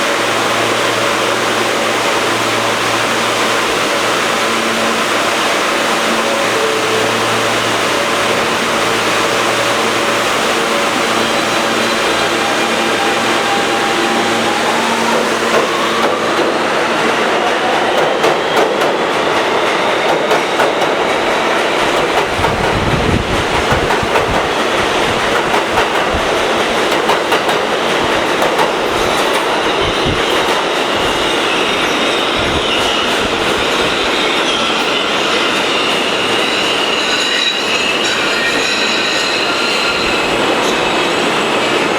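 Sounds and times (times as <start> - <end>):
high wheel squeal: 0.0 - 41.9
subway train propulsion whine: 0.0 - 41.9.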